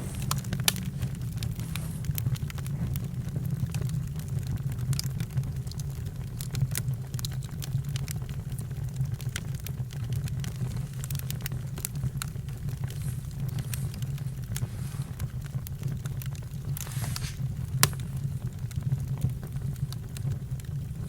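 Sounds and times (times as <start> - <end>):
sharp pops of fire: 0.0 - 5.8, 6.6 - 20.4
campfire crackling: 0.0 - 21.0
low rumble of fire: 0.0 - 21.0.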